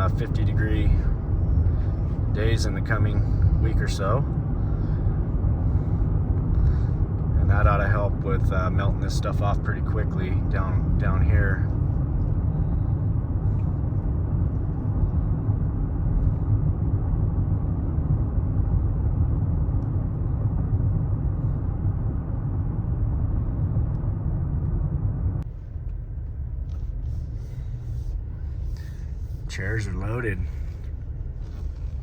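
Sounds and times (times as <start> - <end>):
vehicle driving heard from inside: 0.0 - 32.0.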